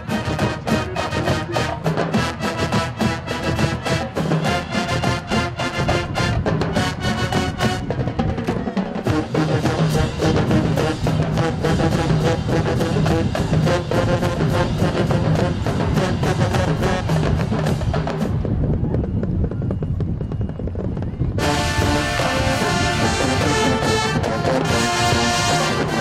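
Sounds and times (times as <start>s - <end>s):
marching band brass: 0.0s - 18.7s, 21.3s - 26.0s
marching drums: 0.0s - 26.0s.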